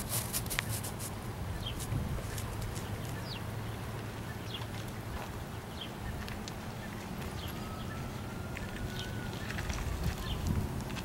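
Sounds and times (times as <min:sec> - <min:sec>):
small birds chirping: 0:00.4 - 0:10.6.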